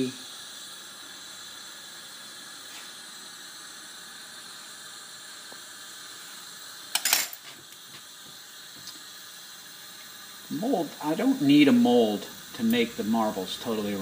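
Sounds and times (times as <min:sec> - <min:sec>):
torch flame hissing: 0:00.0 - 0:14.0.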